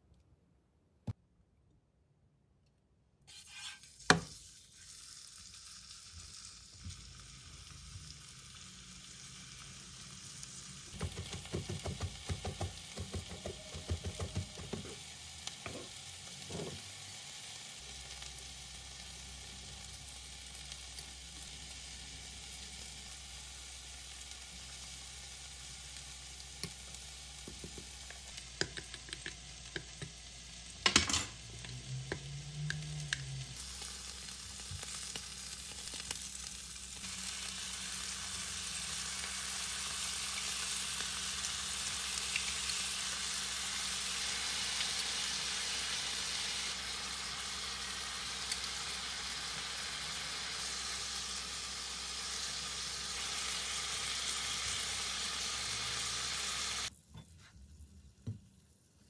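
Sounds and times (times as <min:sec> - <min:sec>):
skewers sizzling in a frying pan: 0:03.3 - 0:57.0.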